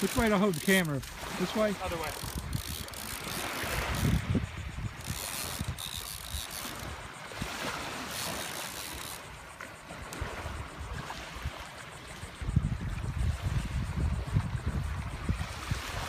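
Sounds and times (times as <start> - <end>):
small waves washing on shore: 0.0 - 16.0
wind buffeting microphone: 0.0 - 16.0.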